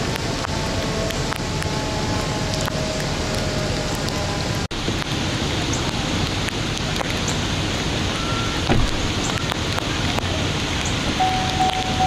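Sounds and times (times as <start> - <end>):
floodwater rushing: 0.0 - 12.0
heavy rain: 0.0 - 12.0.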